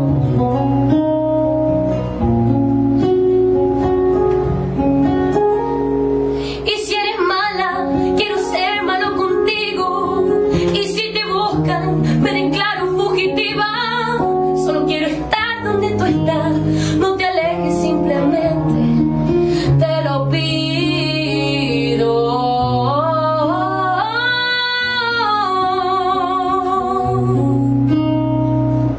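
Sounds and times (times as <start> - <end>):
acoustic guitar: 0.0 - 28.9.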